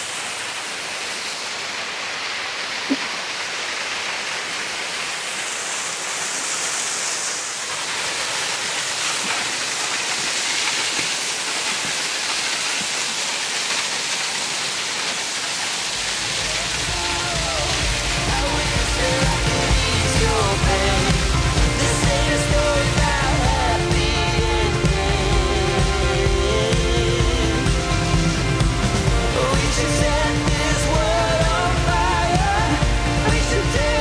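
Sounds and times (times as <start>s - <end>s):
mountain stream and waterfall rushing: 0.0s - 34.0s.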